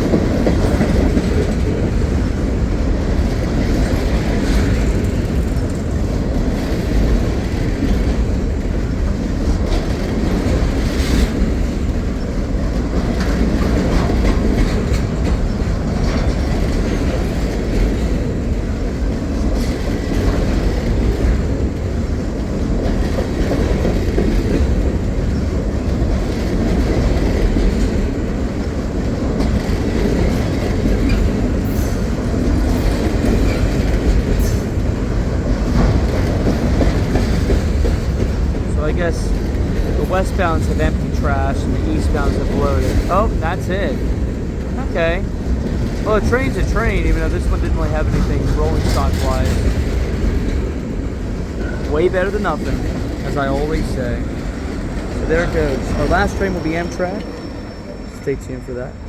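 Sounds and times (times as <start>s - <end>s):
clicking over rail joints: 0.0s - 57.5s
freight train wheels rumbling on rail: 0.0s - 59.0s.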